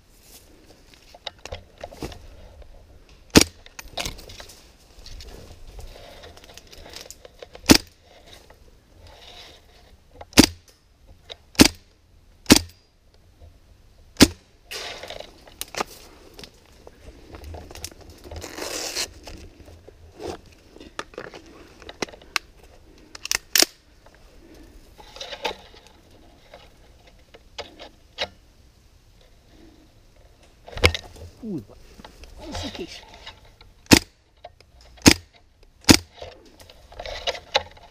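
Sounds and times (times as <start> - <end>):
rustling and crackling: 0.0 - 11.6, 14.3 - 37.9.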